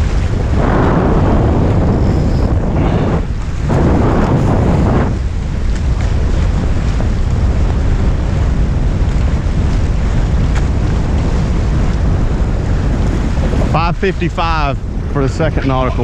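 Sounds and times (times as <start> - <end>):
water rushing along hulls: 0.0 - 16.0
wind buffeting microphone: 0.0 - 16.0.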